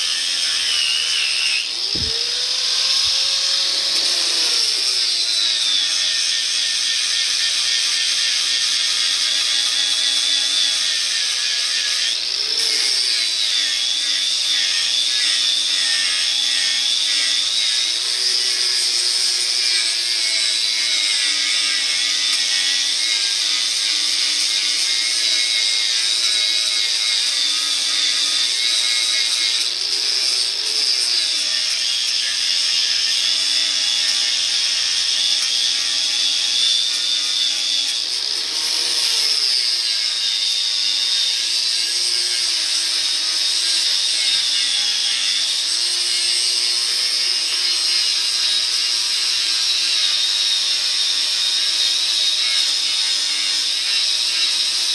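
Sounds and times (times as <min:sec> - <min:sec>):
angle grinder grinding metal: 0:00.0 - 0:54.9.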